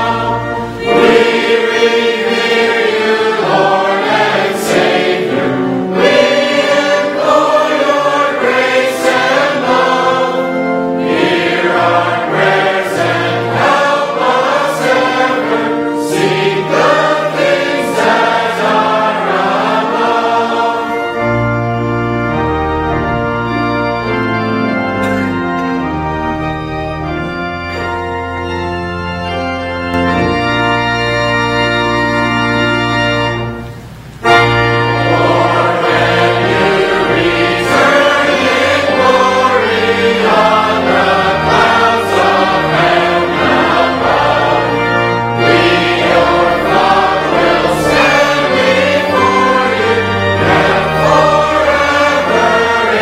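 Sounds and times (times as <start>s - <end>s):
church organ chords: 0.0s - 53.0s
congregation singing a hymn: 0.0s - 53.0s.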